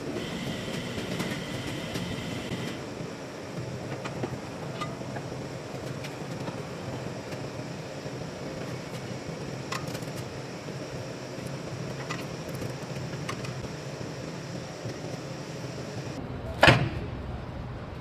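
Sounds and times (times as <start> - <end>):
fan-like hum: 0.0 - 18.0.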